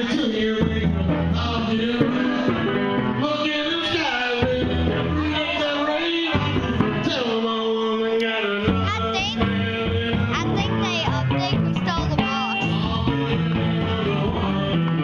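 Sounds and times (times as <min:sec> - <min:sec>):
musical accompaniment: 0:00.0 - 0:07.4, 0:08.4 - 0:15.0
person singing: 0:00.0 - 0:15.0.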